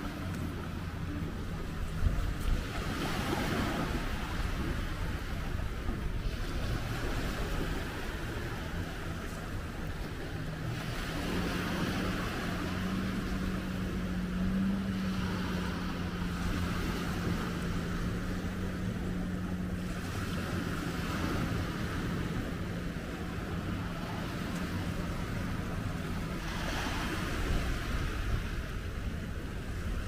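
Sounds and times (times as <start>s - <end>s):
boat engine droning: 0.0s - 30.0s
water rushing: 0.0s - 30.0s
wind: 0.0s - 30.0s.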